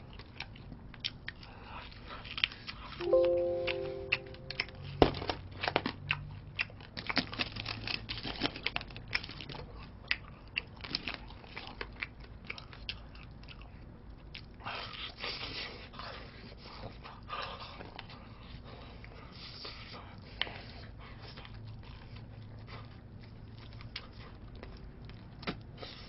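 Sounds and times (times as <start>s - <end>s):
crunchy chewing of fried chicken: 0.0s - 3.0s, 5.1s - 26.0s.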